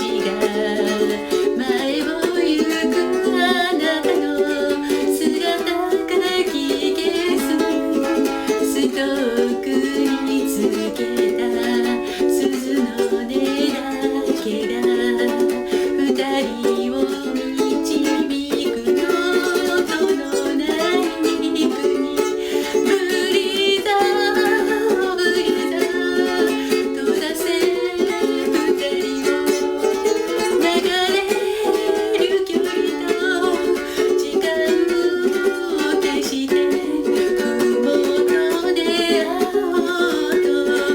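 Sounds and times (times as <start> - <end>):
person singing: 0.0 - 40.9
ukulele playing: 0.0 - 40.9.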